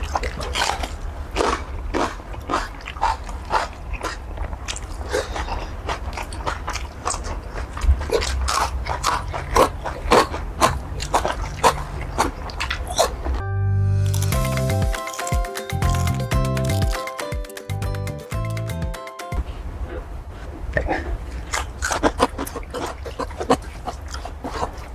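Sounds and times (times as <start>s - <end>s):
biting and chewing: 0.0s - 13.4s, 14.0s - 17.3s, 20.7s - 24.9s.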